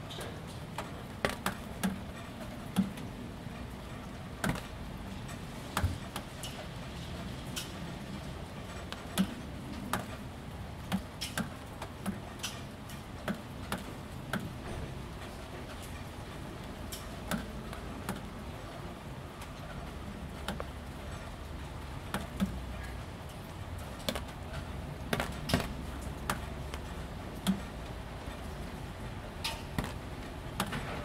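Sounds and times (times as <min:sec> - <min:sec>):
light drizzle: 0:00.0 - 0:31.0
rainwater dripping on roof panels: 0:00.0 - 0:31.0.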